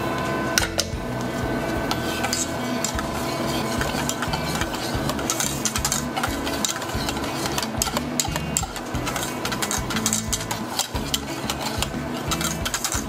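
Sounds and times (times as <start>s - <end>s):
whisk scraping metal bowl: 1.9s - 13.0s.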